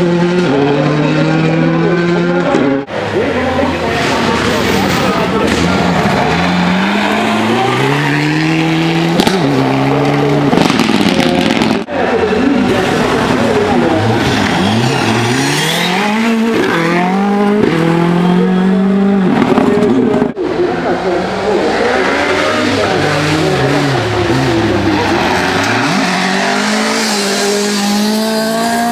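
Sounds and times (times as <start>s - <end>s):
rally car engines revving: 0.0s - 28.9s.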